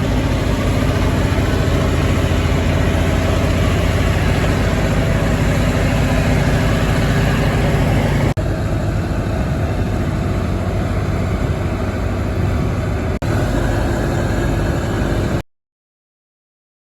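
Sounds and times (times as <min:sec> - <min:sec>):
tractor diesel engine running: 0:00.0 - 0:15.4.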